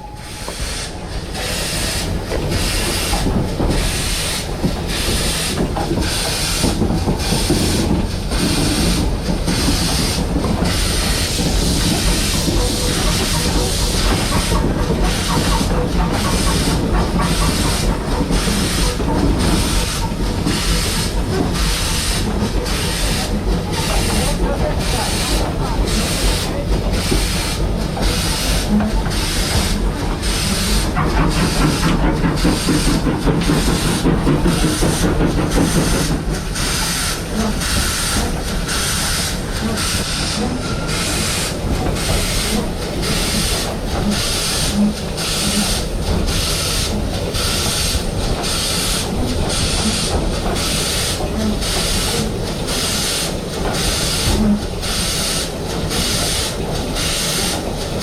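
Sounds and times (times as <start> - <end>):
steam hiss: 0.0 - 57.9
steam locomotive exhaust beats: 0.0 - 58.0.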